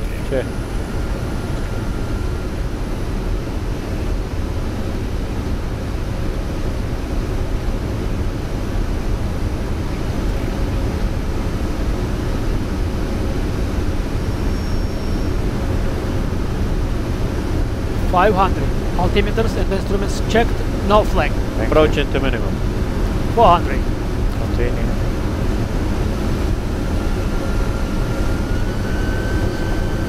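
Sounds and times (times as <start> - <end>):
airflow and engine noise: 0.0 - 30.0.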